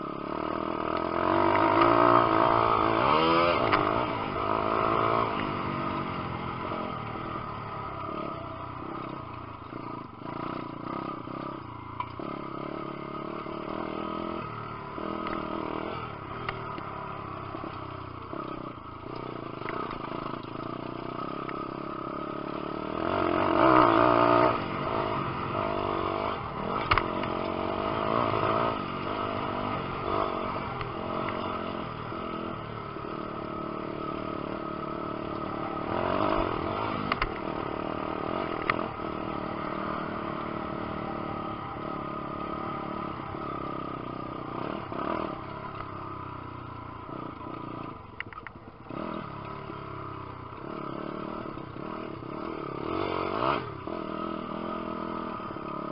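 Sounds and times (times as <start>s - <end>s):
pit bike engine revving: 0.0s - 55.9s.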